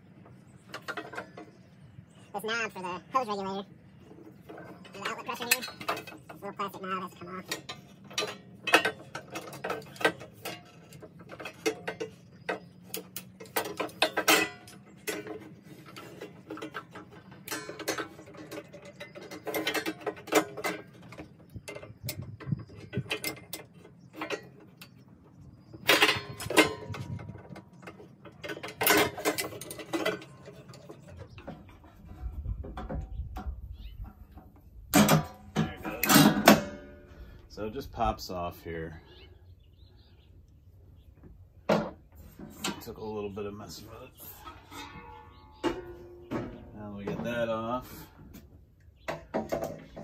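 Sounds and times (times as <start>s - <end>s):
loose metal parts clattering: 0.3s - 1.8s, 4.1s - 37.4s, 41.7s - 48.4s.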